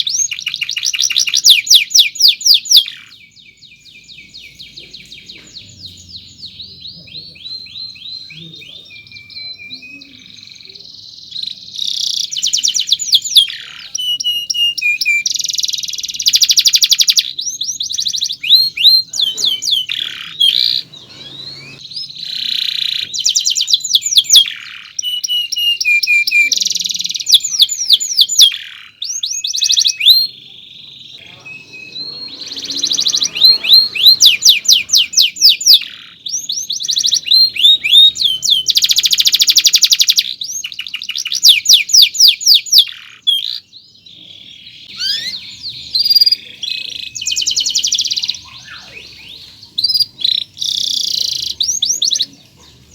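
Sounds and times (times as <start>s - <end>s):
canary singing: 0.0s - 52.9s.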